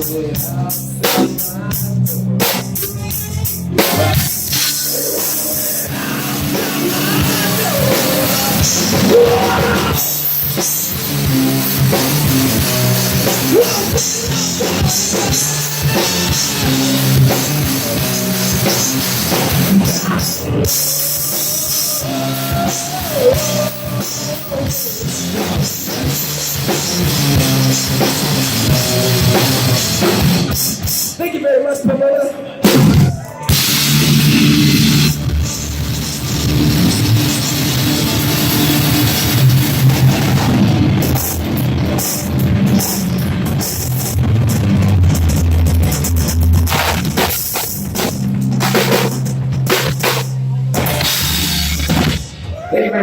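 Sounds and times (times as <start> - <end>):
electric guitar: 0.0 - 31.2, 32.7 - 52.9
drum kit: 0.0 - 52.7
distorted live rock band: 0.0 - 53.0.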